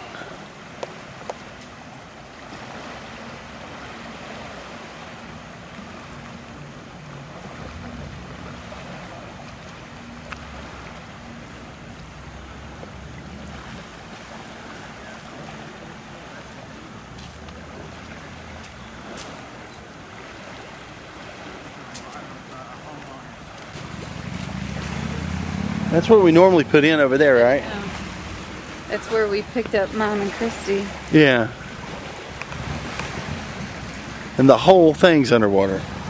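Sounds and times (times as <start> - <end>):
distant motorboat engine droning: 0.0 - 36.0
lake water: 0.0 - 36.0.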